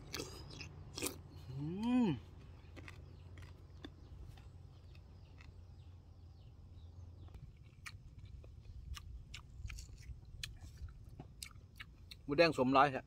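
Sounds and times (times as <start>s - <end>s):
person chewing food: 0.0s - 6.2s, 7.3s - 12.3s.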